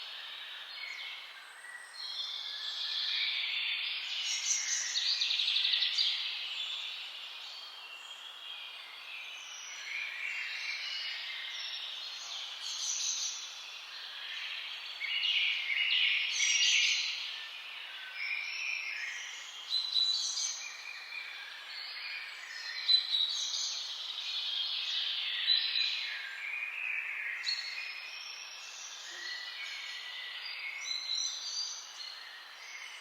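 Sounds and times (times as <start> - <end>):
songbirds singing and calling: 0.0 - 33.0.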